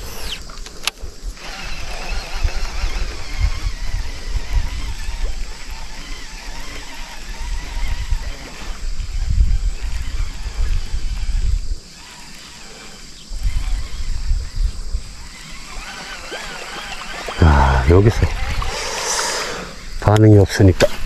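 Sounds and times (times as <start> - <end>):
wind buffeting microphone: 0.0 - 12.6, 13.3 - 19.0
reel cranking whir: 0.0 - 21.0
reel spool spinning whine: 0.0 - 21.0.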